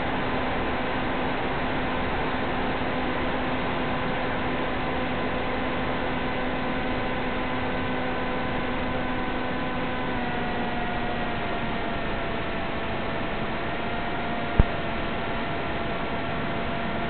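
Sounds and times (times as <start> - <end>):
electric motor and propeller drone: 0.0 - 17.0.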